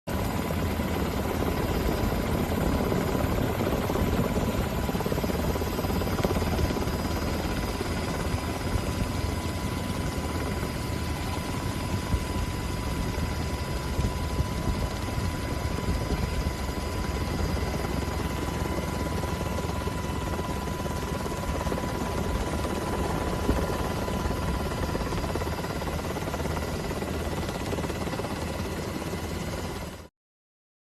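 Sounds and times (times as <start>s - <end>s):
faint steady whine: 0.1s - 30.0s.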